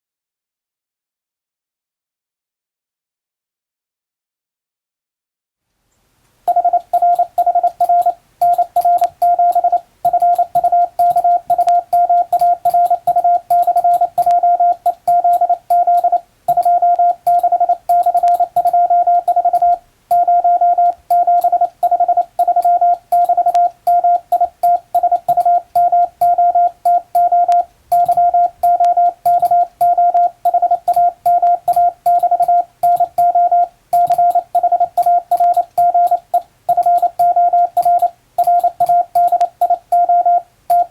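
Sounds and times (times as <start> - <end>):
morse code beeps: 6.5 - 40.9.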